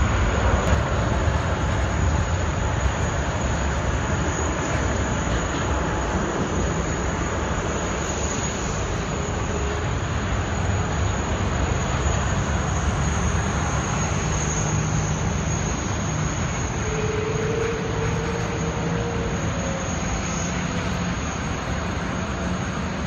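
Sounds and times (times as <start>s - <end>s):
apron vehicles: 0.0s - 23.0s
faint steady tone: 0.0s - 23.0s
jet engines taxiing: 0.0s - 23.0s.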